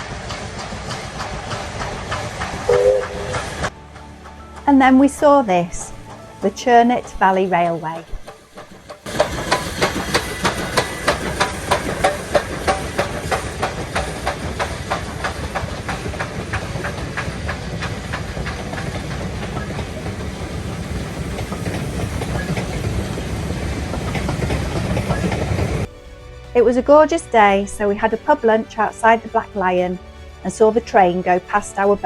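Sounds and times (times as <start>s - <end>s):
steam train chuffing: 0.0s - 26.0s
train rumble and hiss: 0.0s - 32.0s.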